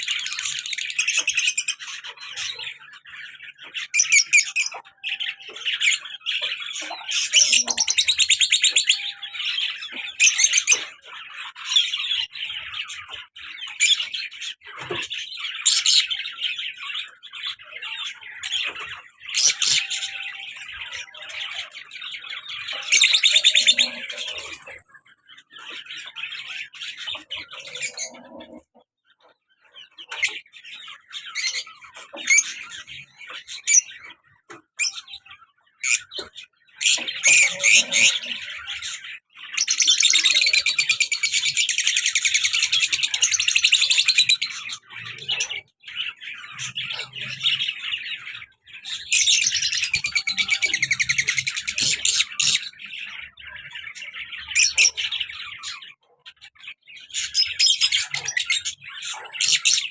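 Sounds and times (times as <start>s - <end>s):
lovebirds chattering and chirping: 0.0s - 59.9s.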